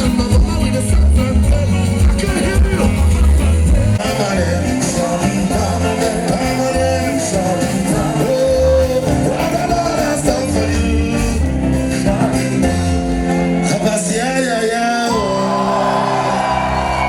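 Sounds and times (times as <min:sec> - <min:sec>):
upbeat pop music with singing: 0:00.0 - 0:17.0.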